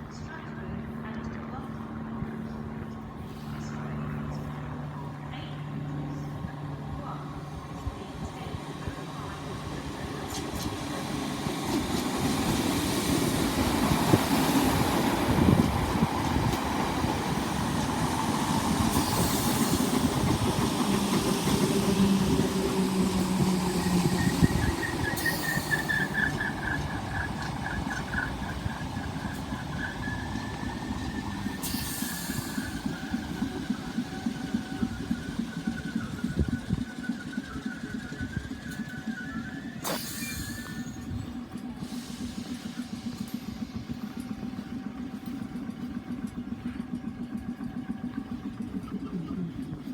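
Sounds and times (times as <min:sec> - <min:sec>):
train wheels rumbling on rails: 0:00.3 - 0:49.9.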